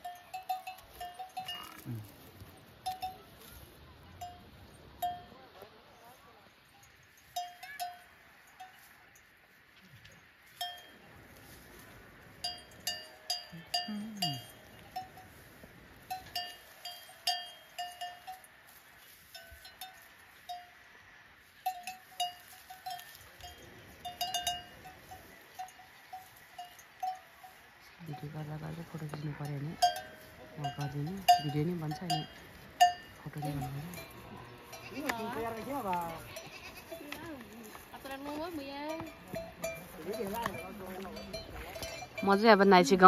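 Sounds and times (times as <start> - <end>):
cattle bells clanking: 0.0 - 3.6, 4.2 - 5.4, 6.6 - 11.1, 11.8 - 43.0.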